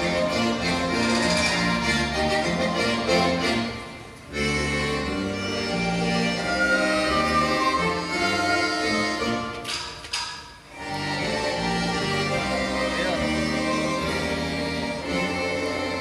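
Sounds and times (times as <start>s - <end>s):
folk dance music accordion and strings: 0.0s - 16.0s.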